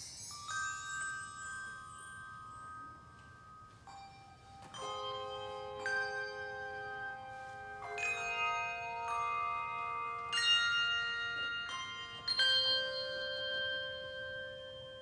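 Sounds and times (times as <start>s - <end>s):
handbells ringing chords: 0.0s - 15.0s.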